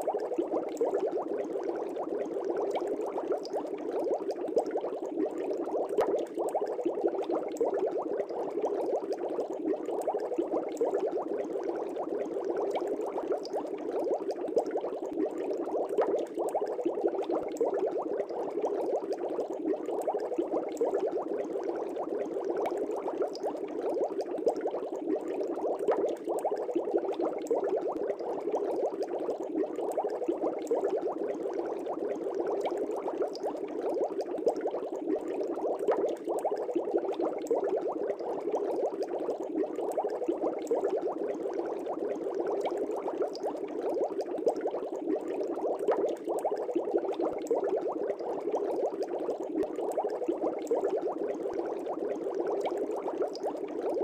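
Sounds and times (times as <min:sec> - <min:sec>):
aquarium air bubbles bubbling: 0:00.0 - 0:54.0.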